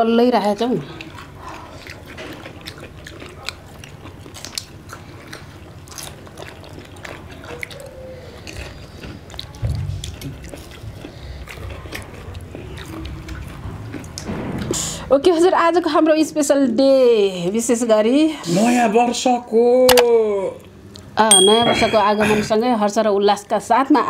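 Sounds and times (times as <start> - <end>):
people chewing and crunching food: 0.0 - 17.6, 20.0 - 22.8.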